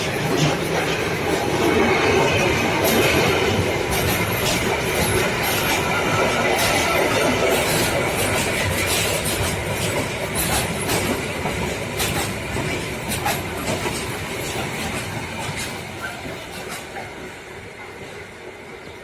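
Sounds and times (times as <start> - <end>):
wheels clicking over rail joints: 0.0 - 17.4
freight train rolling past: 0.0 - 19.0.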